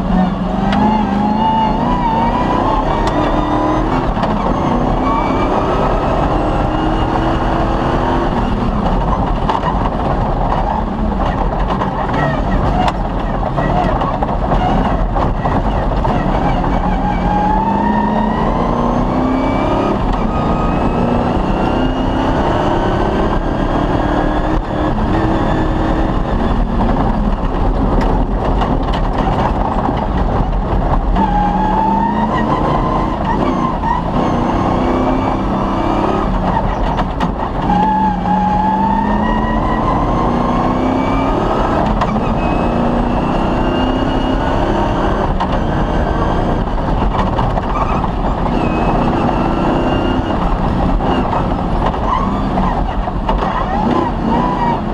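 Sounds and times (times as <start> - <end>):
car knocks and rattles: 0.0 - 54.9
rally car engine running hard: 0.0 - 54.9.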